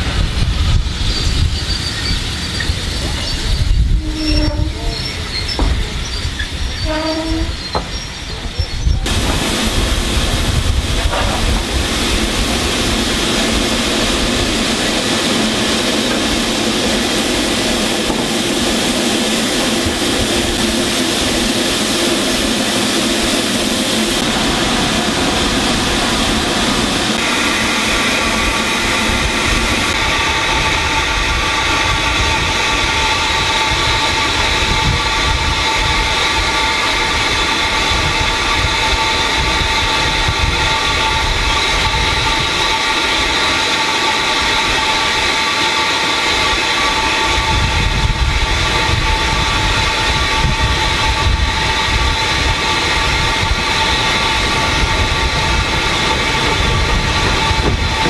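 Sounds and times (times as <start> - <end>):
steam hissing: 0.0 - 58.0.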